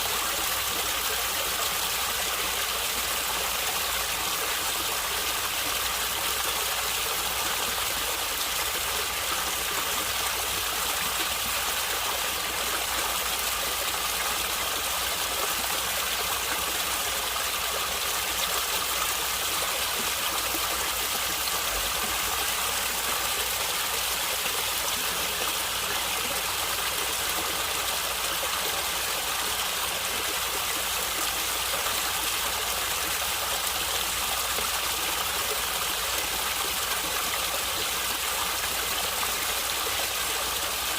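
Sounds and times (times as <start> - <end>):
stream water gurgling over rocks: 0.0 - 40.9.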